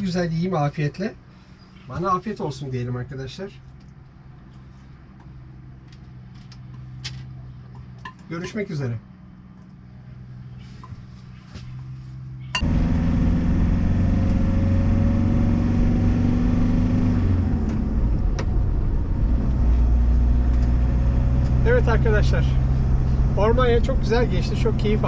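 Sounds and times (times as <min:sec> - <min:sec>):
van engine with road rumble: 0:00.0 - 0:25.0.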